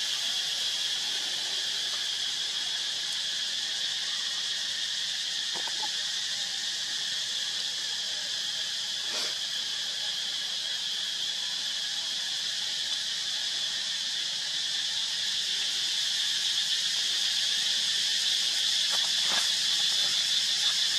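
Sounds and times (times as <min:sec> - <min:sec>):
insect chorus drone: 0:00.0 - 0:20.9.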